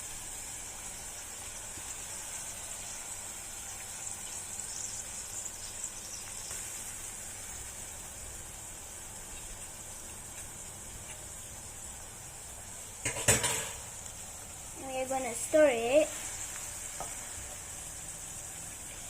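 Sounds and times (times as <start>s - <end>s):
tofu sizzling in hot oil: 0.0s - 19.0s.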